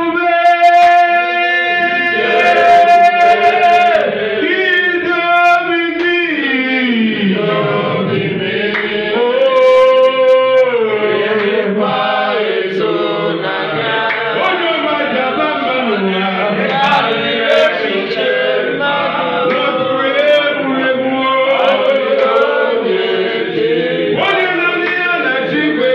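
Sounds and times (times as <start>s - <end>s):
people singing gospel song: 0.0s - 25.9s.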